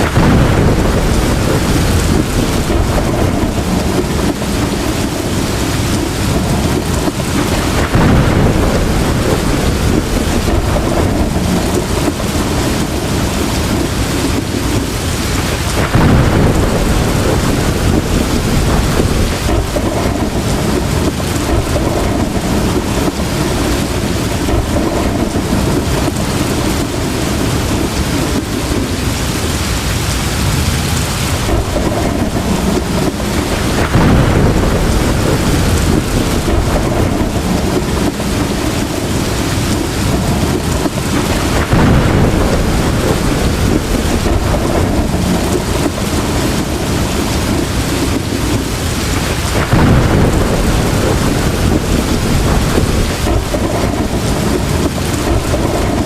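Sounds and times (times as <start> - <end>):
heavy rain falling: 0.0 - 56.0
thunder rumbling: 0.0 - 56.0.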